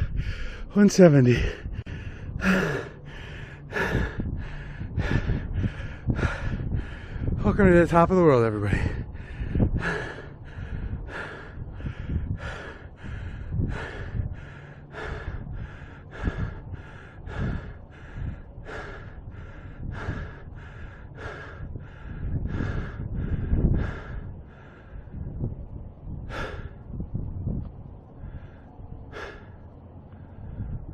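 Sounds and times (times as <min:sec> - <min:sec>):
man panting: 0:00.0 - 0:07.7, 0:08.4 - 0:25.4, 0:26.0 - 0:27.1, 0:28.0 - 0:30.9.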